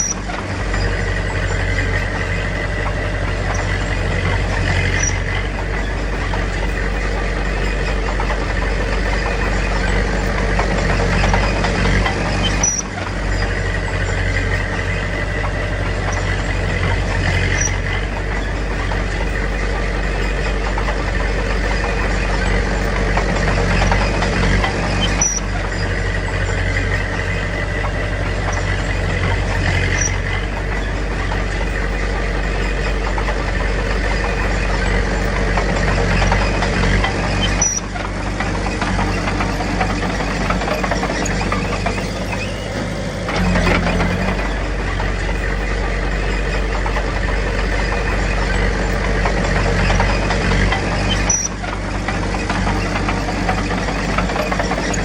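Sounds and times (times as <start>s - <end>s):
heavy machinery diesel engine running: 0.0s - 55.0s.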